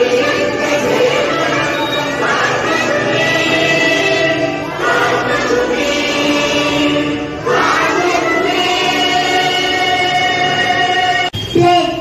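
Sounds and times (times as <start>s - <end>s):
children singing in unison: 0.0s - 11.3s.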